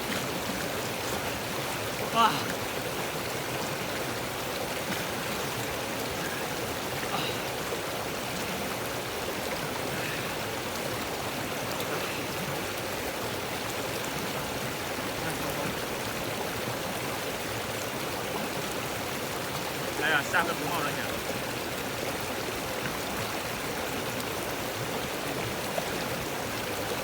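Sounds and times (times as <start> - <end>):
creek water flowing: 0.0 - 27.0.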